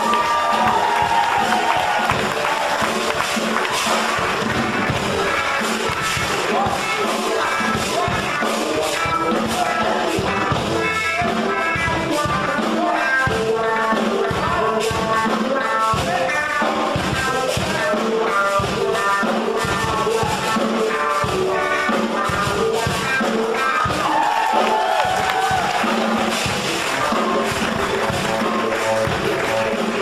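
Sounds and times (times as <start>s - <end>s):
music with drums: 0.0s - 30.0s.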